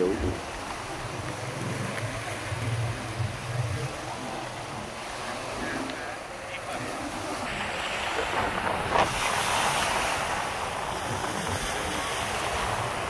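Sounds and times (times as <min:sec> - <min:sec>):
sea waves breaking on shore: 0:00.0 - 0:13.0
wind buffeting microphone: 0:00.0 - 0:13.0.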